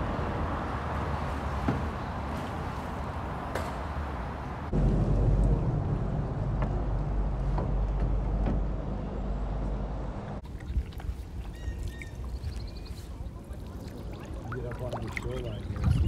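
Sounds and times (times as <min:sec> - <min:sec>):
highway traffic rumble: 0:00.0 - 0:16.0.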